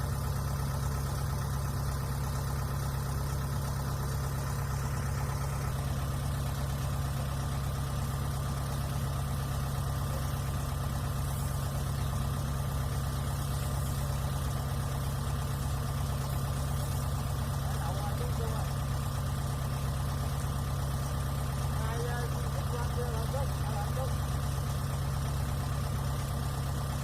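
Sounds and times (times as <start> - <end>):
diesel engine running steadily: 0.0 - 27.0.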